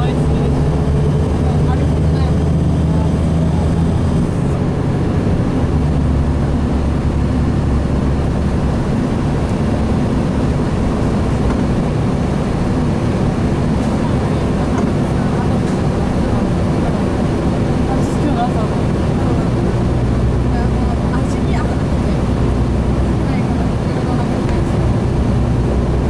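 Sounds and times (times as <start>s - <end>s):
bus diesel engine drone: 0.0s - 26.0s
road noise: 0.0s - 26.0s.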